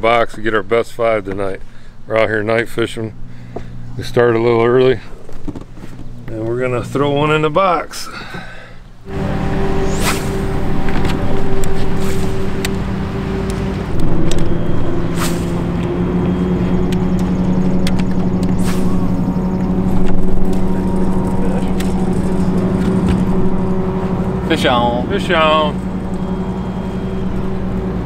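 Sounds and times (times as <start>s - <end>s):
boat motor humming: 1.3s - 28.0s.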